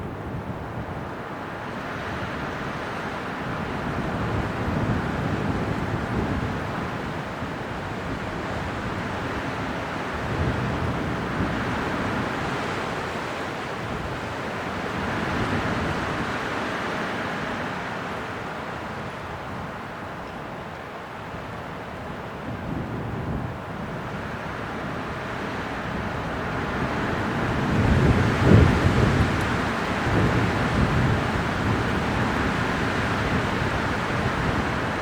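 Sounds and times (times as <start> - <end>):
strong wind gusting: 0.0 - 20.2, 21.3 - 35.0.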